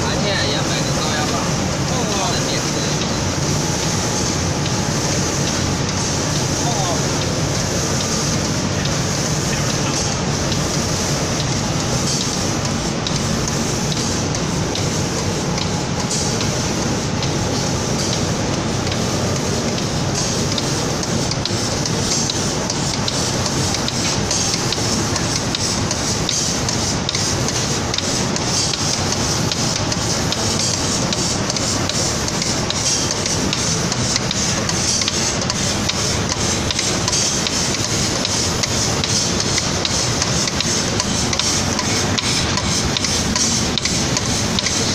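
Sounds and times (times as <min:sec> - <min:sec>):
mechanical machine noise: 0:00.0 - 0:44.9
spray gun hissing: 0:00.5 - 0:44.9.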